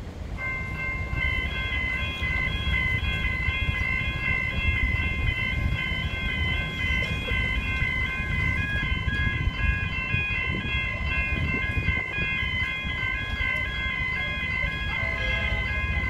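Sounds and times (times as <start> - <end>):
level crossing warning bells: 0.0 - 16.0.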